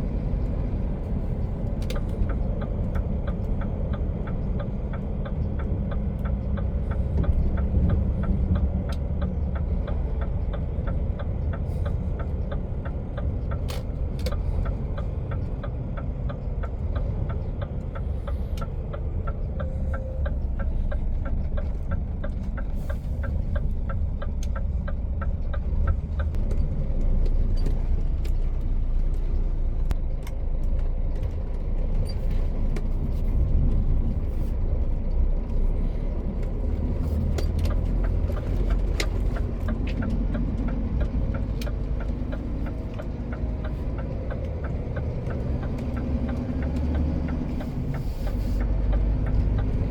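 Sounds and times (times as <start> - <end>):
truck engine and road rumble: 0.0 - 49.9
turn signal ticking: 0.0 - 49.9.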